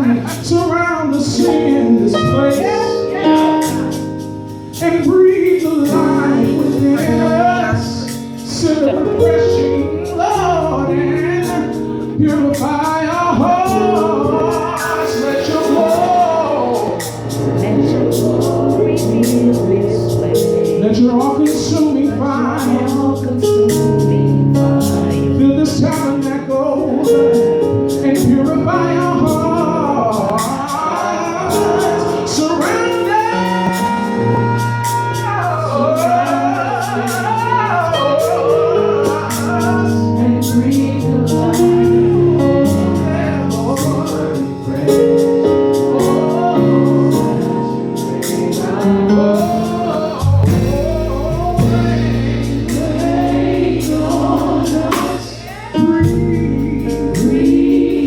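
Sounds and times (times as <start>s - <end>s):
band playing chords and beat: 0.0s - 58.0s
deep bass: 0.0s - 58.0s.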